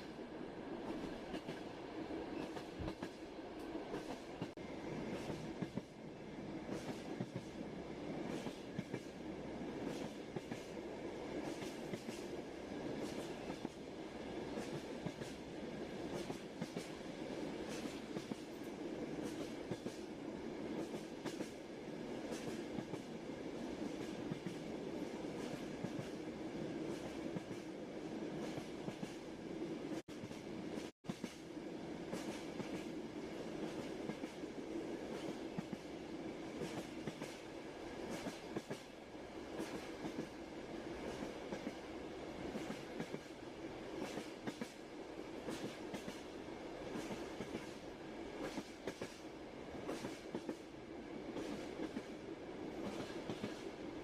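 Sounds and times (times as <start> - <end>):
train wheels clickety-clack on track: 0.8 - 54.0.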